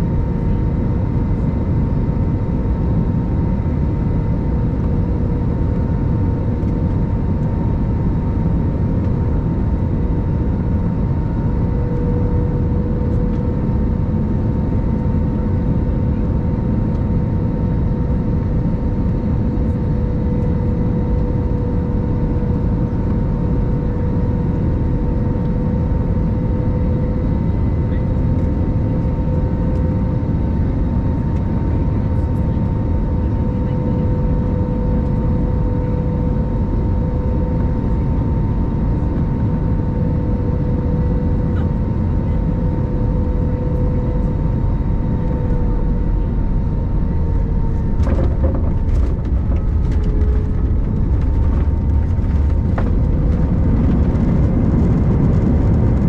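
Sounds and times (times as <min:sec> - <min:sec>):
airliner cabin engine roar: 0:00.0 - 0:56.0
steady whine: 0:00.0 - 0:56.0.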